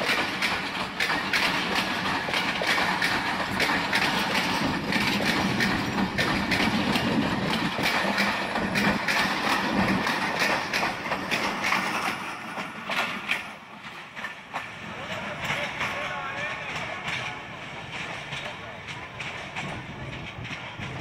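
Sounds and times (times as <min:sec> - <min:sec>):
train wheels clicking over rails: 0:00.0 - 0:21.0.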